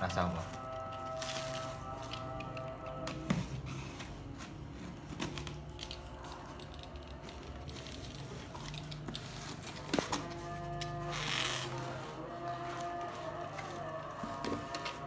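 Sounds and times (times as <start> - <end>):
packaging crinkling and rustling: 0.2 - 15.0.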